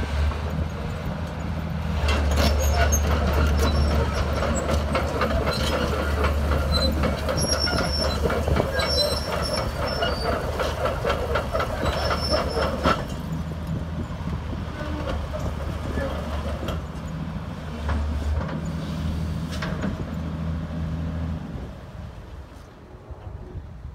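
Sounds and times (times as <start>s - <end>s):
diesel engine droning: 0.0s - 22.5s
track links clanking and squealing: 0.3s - 20.3s.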